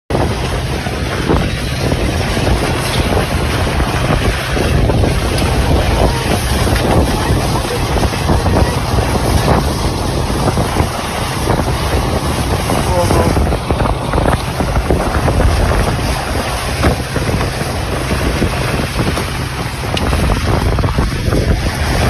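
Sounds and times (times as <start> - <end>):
strong wind buffeting microphone: 0.1 - 22.0.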